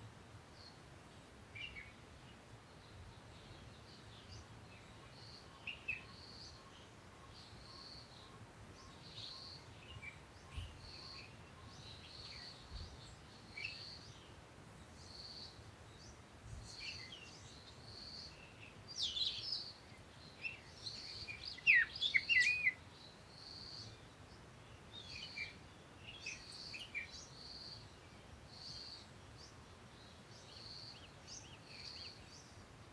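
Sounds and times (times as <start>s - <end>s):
birds chirping and twittering: 0.6s - 32.9s.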